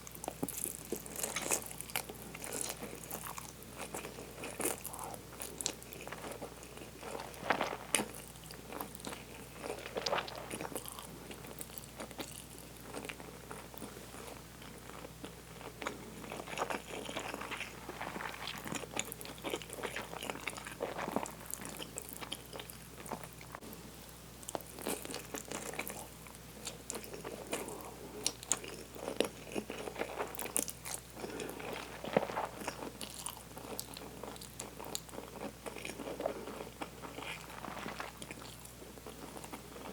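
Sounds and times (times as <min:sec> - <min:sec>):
person chewing food: 0:00.1 - 0:23.7, 0:24.4 - 0:39.9.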